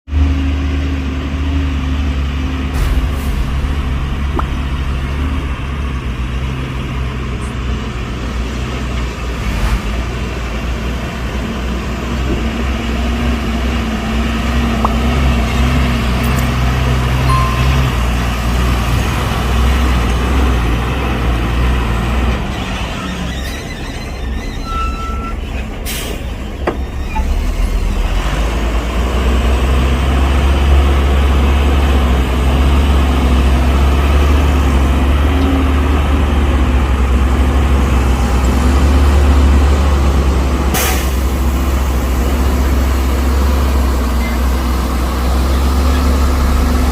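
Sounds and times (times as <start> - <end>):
heavy diesel machinery running: 0.1 - 46.9.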